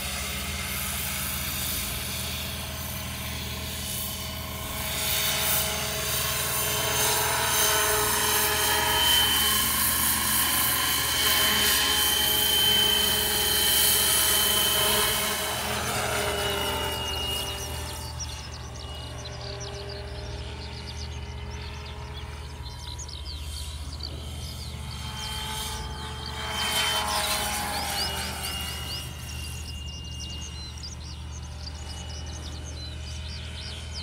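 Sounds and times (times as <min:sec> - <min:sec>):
high whine from drive: 0:00.0 - 0:34.0
model helicopter rotor beat: 0:00.0 - 0:34.0.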